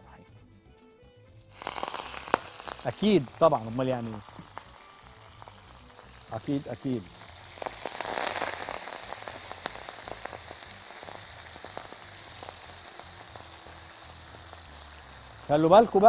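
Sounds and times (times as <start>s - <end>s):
greens sizzling in hot oil: 1.3s - 16.0s.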